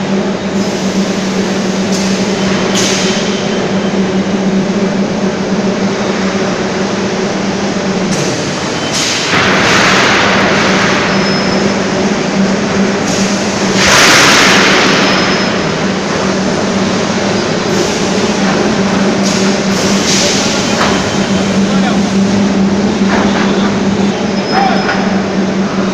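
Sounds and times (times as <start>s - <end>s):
steady machine hum: 0.0s - 25.9s.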